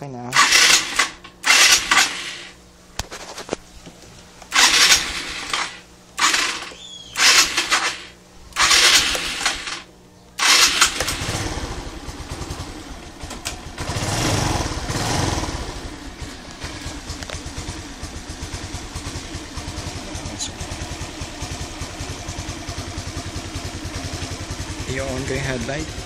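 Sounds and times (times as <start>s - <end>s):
scooter engine cranking: 0.3s - 2.6s, 4.5s - 24.8s
scooter engine running: 0.3s - 2.6s, 4.5s - 26.0s.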